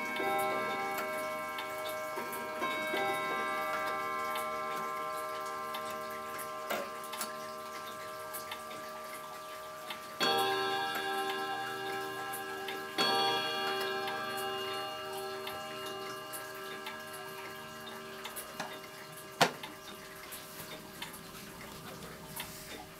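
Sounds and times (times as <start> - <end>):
clock striking: 0.0 - 22.1
clock ticking: 0.0 - 22.9.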